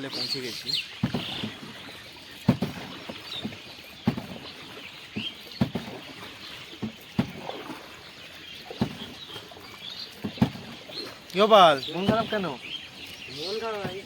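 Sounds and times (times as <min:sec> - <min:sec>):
oars knocking and splashing: 0:00.0 - 0:14.0.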